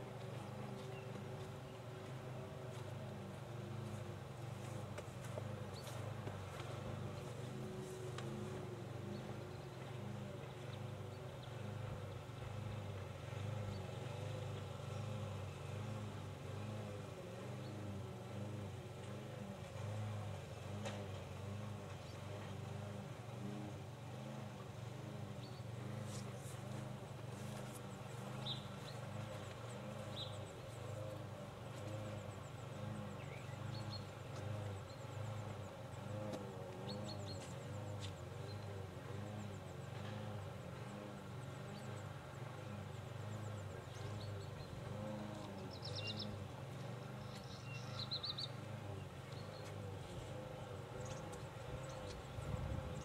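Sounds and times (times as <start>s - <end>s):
low pulsing hum: 0.0s - 53.0s
small birds chirping: 0.1s - 3.0s, 3.8s - 15.8s, 25.0s - 53.0s.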